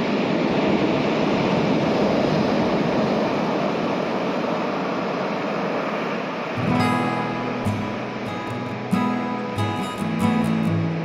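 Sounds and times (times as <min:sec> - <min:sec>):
rough sea surf breaking: 0:00.0 - 0:11.0.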